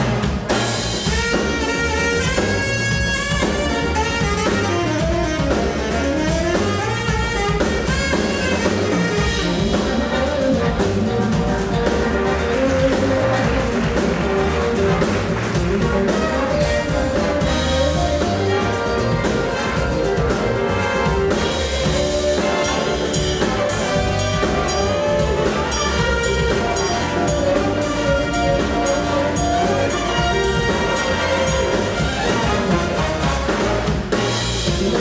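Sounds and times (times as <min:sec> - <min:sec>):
brass horns playing jazz: 0:00.0 - 0:35.0
drum kit steady beat: 0:00.0 - 0:35.0.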